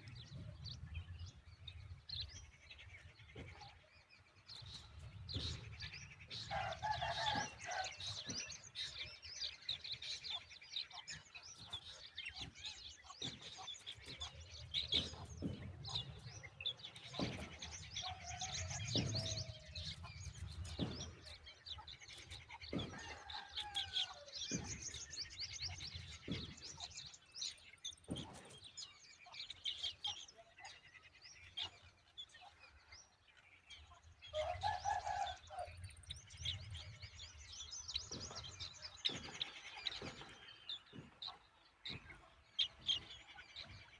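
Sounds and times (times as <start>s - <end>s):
birds chirping and calling: 0.0s - 43.9s.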